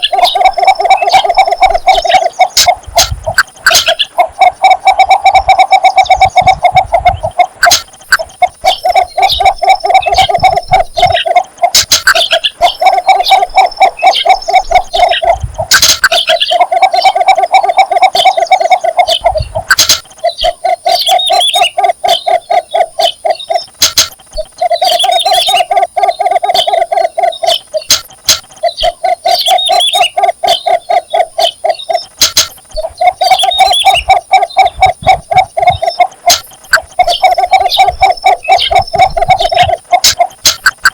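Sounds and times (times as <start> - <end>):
bird low clucking call: 0.0 - 40.9.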